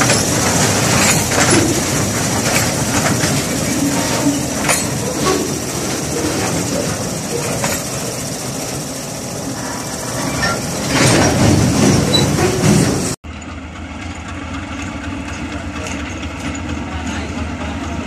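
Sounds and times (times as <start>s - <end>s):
distant diesel locomotive engine: 0.0s - 18.0s
train wheels clattering on rails: 0.0s - 18.0s.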